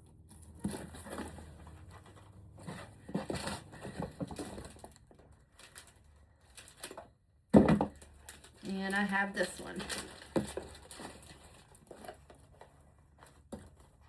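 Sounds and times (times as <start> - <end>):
plastic packaging rustling: 0.2 - 14.0.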